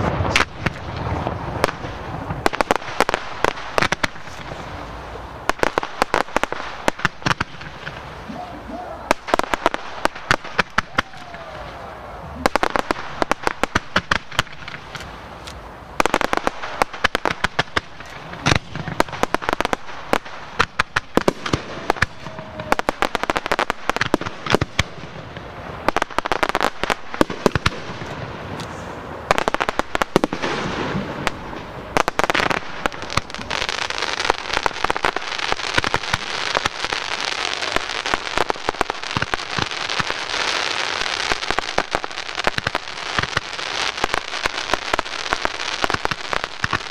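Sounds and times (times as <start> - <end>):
fireworks bangs and pops: 0.0 - 46.9
fireworks crackling: 0.0 - 46.9.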